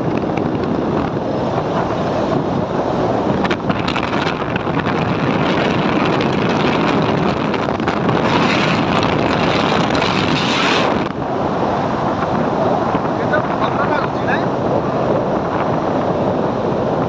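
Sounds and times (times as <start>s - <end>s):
road noise: 0.0s - 17.0s
wind rush on microphone: 0.0s - 17.0s.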